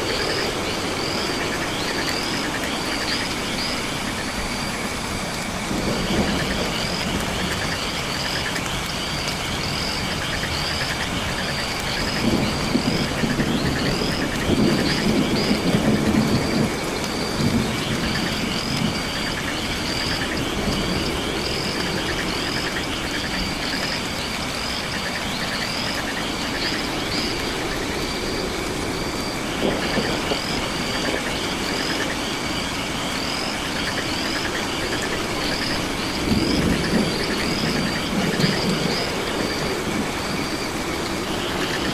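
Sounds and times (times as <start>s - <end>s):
rain hiss: 0.0s - 41.9s.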